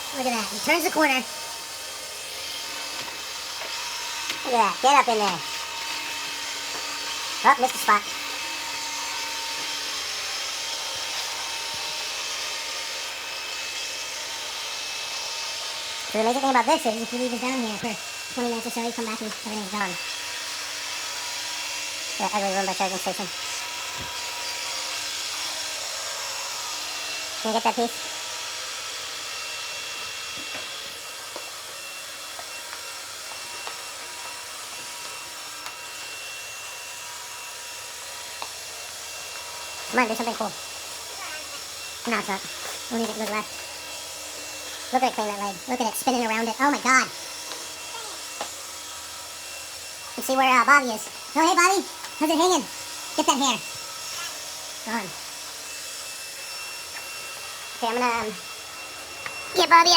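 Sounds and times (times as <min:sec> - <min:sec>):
robot vacuum running: 0:00.0 - 0:59.9
thin motor whine: 0:00.0 - 0:59.9.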